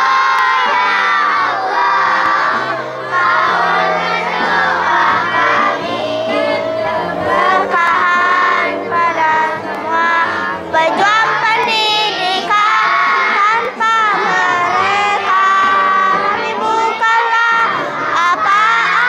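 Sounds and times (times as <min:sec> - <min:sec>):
children's choir singing: 0:00.0 - 0:19.0.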